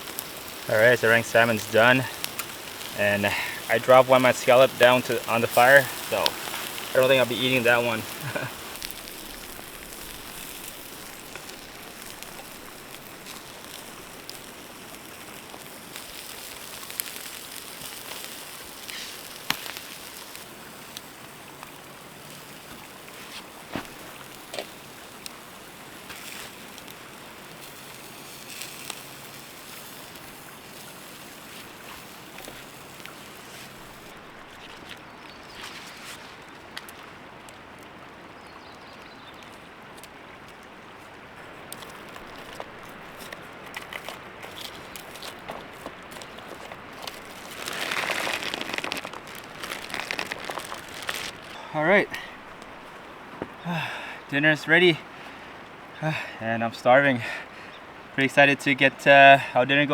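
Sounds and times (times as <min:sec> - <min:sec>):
burning wood crackling and popping: 0:00.0 - 0:58.7
food sizzling over campfire: 0:00.0 - 0:59.9.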